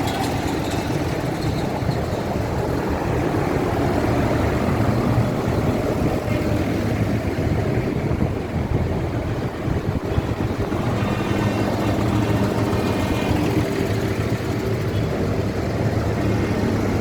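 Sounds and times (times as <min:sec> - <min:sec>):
tractor engines rumbling: 0:00.0 - 0:17.0.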